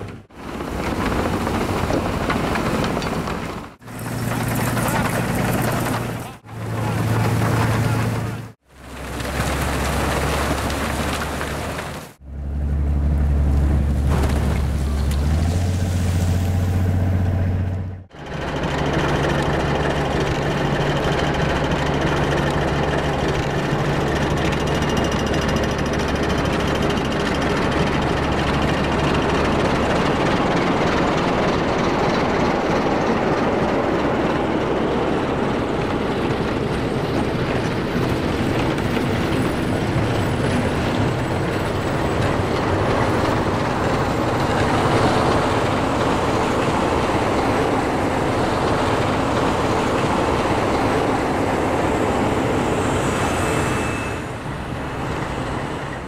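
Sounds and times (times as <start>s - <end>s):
train wheels on rails: 0.0s - 12.2s, 18.1s - 56.0s.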